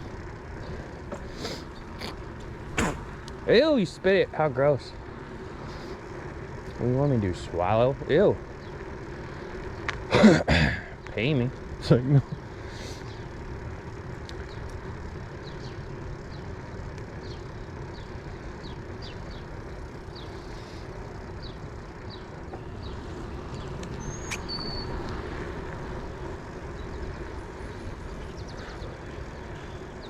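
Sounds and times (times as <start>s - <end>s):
small birds chirping: 0.0s - 10.1s, 10.8s - 30.0s
wind and road noise from bicycle: 0.0s - 30.0s.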